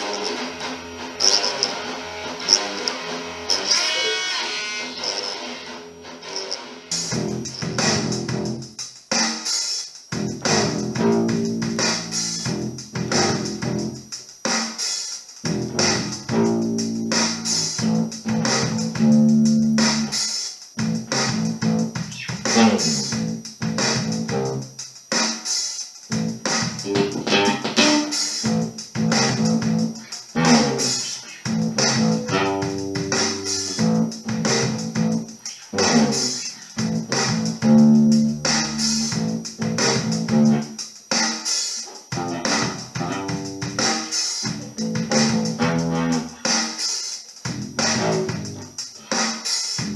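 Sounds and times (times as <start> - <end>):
electric bass funk riff: 0.0 - 4.2, 6.2 - 8.7, 10.1 - 14.1, 15.4 - 24.8, 26.1 - 40.8, 42.1 - 46.7, 47.5 - 49.2.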